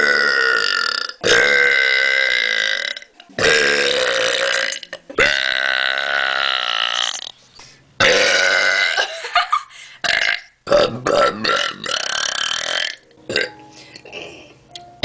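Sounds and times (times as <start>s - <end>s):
person burping: 0.0s - 7.3s, 8.0s - 9.1s, 10.0s - 14.5s.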